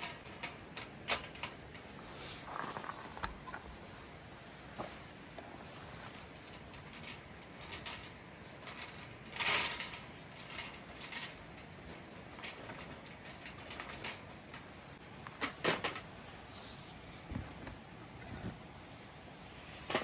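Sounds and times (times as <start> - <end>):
rustle or scrape: 1.8 - 15.0, 15.8 - 20.0.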